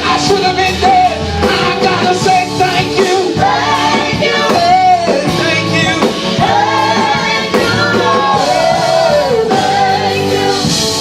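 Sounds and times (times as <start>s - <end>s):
church band accompaniment: 0.0s - 11.0s.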